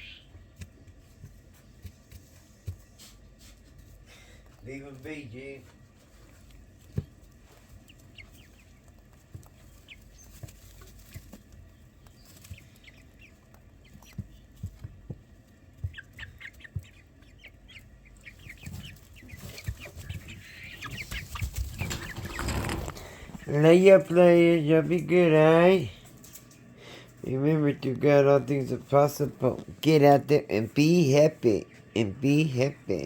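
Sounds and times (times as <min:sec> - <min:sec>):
chicks peeping: 0:00.0 - 0:33.0
poultry clucking: 0:00.0 - 0:33.0.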